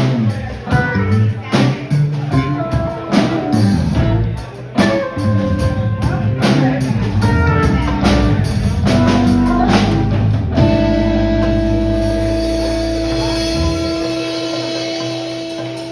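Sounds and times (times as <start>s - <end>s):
live rock band playing: 0.0s - 15.9s.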